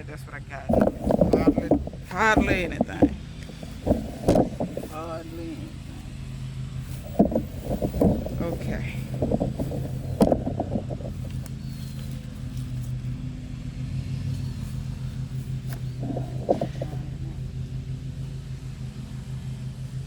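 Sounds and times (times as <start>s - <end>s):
engine pulsing hum: 0.0s - 20.0s.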